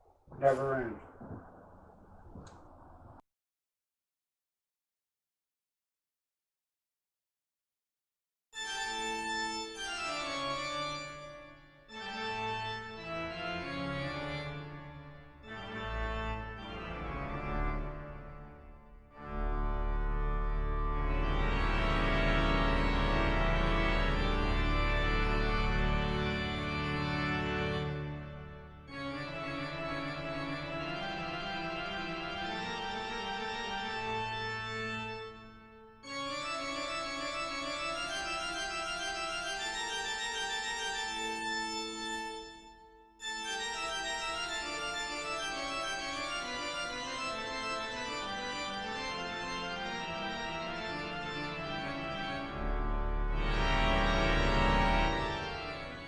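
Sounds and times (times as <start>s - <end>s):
organ playing sustained chords: 8.6s - 18.5s, 19.2s - 56.0s.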